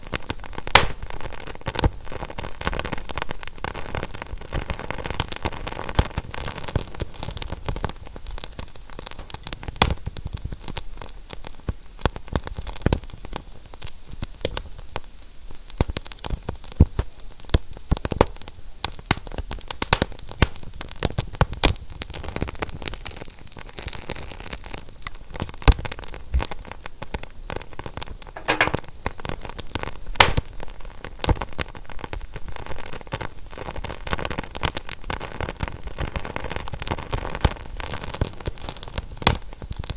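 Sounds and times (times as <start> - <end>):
fire crackling with snaps and pops: 0.0 - 39.9.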